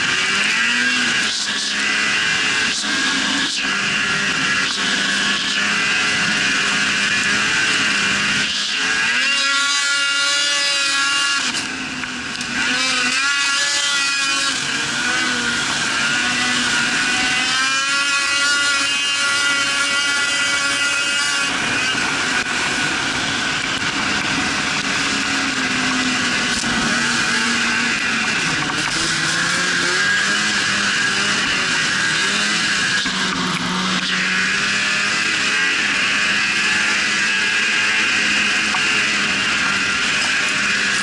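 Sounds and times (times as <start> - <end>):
snowmobile engine revving: 0.0 - 41.0.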